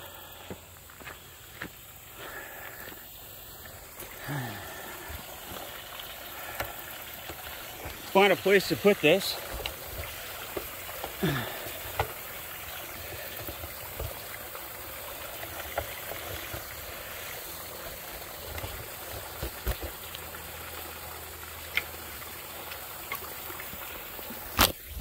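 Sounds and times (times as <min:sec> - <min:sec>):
water trickling into metal pipe: 0:01.9 - 0:24.6.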